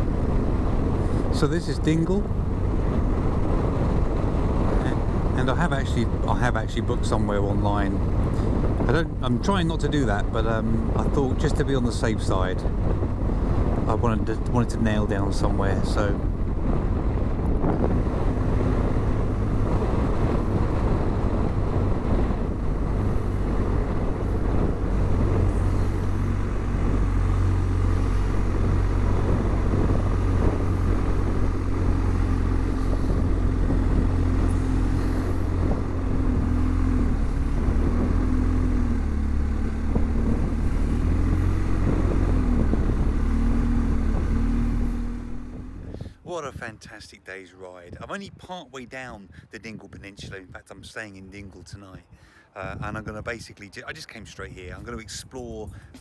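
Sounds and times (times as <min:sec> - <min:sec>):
motorcycle engine rumble: 0:00.0 - 0:46.3.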